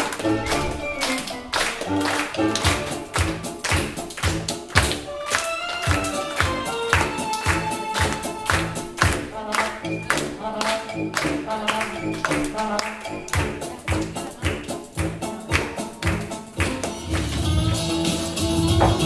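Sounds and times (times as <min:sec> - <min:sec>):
background music with sharp beat: 0:00.0 - 0:19.0.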